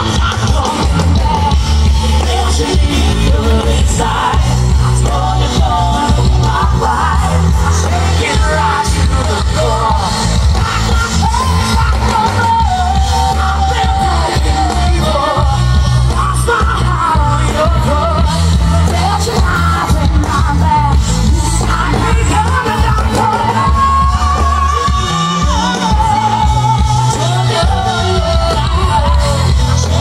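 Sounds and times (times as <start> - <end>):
person singing: 0.0 - 30.0
rock band playing: 0.0 - 30.0.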